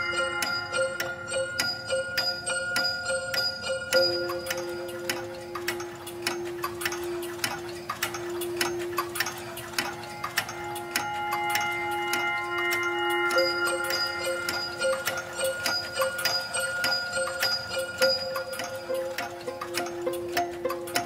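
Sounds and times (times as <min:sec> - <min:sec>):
clock ticking: 0:00.0 - 0:21.0
held music notes: 0:00.0 - 0:21.0.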